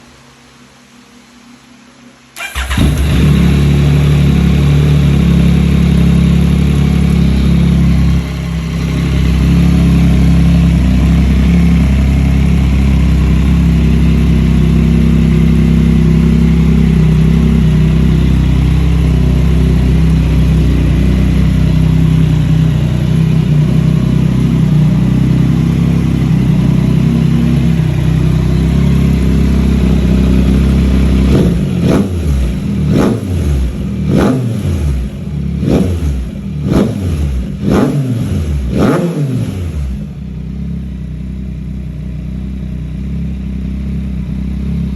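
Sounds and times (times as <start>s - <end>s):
motorcycle engine starting and idling: 2.4s - 44.9s.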